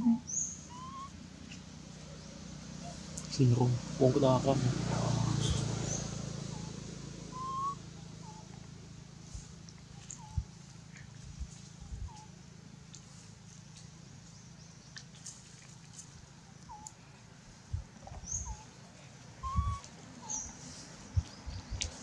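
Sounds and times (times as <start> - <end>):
birds chirping: 0.0 - 8.7, 9.8 - 11.2, 11.8 - 22.0.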